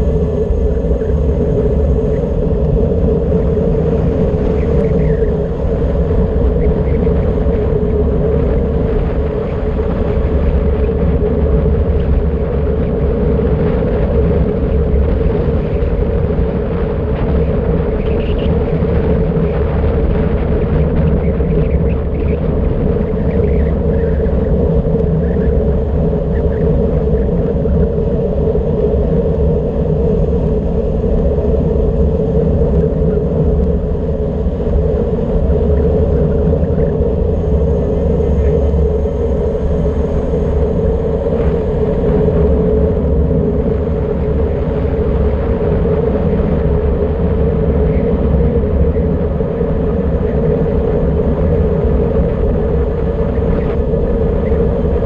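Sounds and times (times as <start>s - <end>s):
constant hum: 0.0s - 55.0s
wind rushing over microphone: 0.0s - 55.0s.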